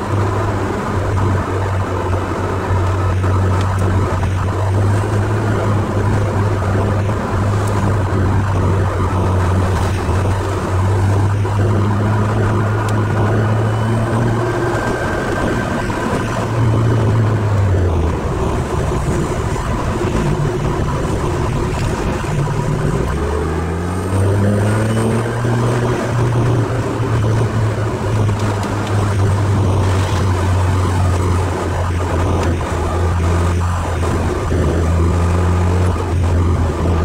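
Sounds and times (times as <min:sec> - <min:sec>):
car engine droning and accelerating: 0:00.0 - 0:37.0
tyre and road noise: 0:00.0 - 0:37.0.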